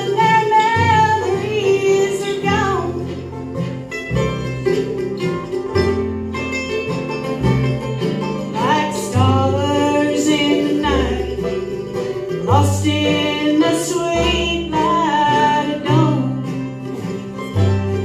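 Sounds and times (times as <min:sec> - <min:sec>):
banjo: 0:00.0 - 0:18.0
fiddle: 0:00.0 - 0:18.0
guitar: 0:00.0 - 0:18.0
mandolin: 0:00.0 - 0:18.0
sliding melody line: 0:00.0 - 0:18.0
upright bass: 0:00.0 - 0:18.0.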